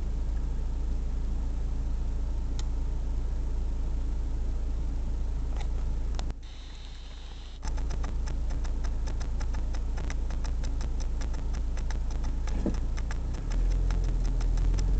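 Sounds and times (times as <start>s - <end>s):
car engine drone: 0.0s - 14.9s.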